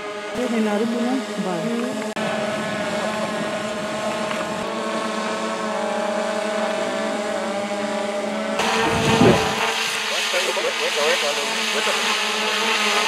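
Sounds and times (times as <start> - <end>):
engine running at constant speed: 0.0 - 13.0.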